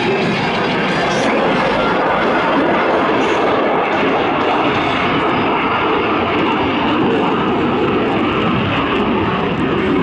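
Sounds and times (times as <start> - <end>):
jet engine noise overhead: 0.0 - 10.0.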